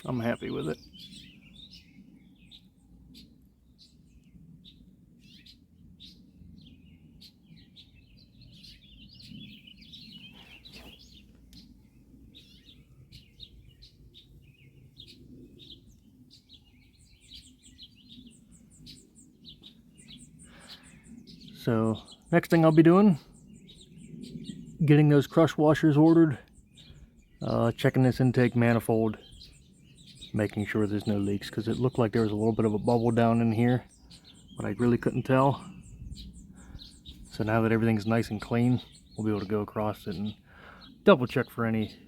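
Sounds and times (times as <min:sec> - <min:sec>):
birds chirping faintly: 0:00.0 - 0:42.0
low steady background rumble: 0:00.0 - 0:42.0.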